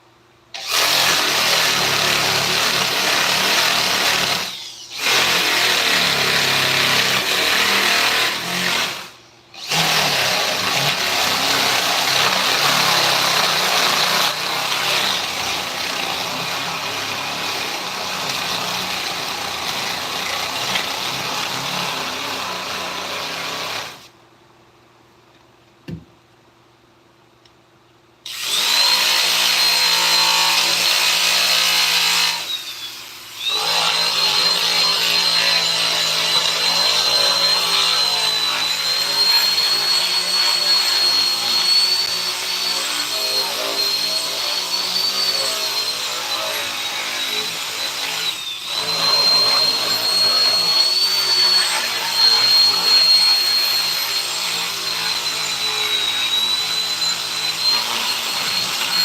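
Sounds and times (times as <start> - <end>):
power tool cutting wood: 0.6 - 24.1, 28.3 - 59.0.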